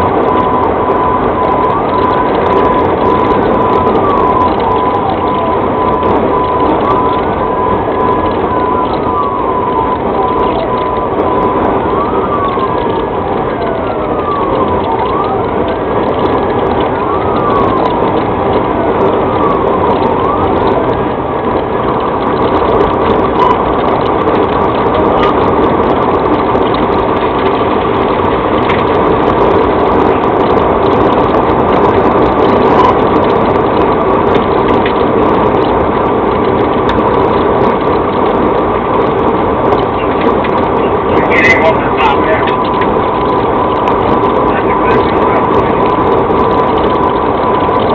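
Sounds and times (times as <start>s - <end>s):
car road and wind noise: 0.0s - 47.9s
police siren wailing: 0.0s - 47.9s.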